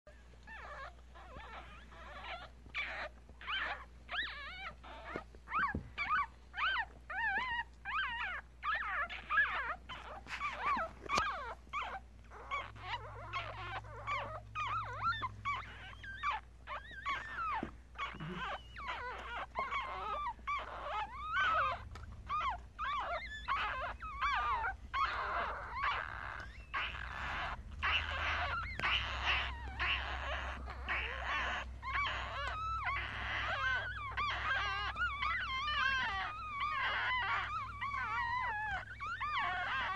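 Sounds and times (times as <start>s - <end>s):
puppies squeaking and whimpering: 0.1s - 39.9s.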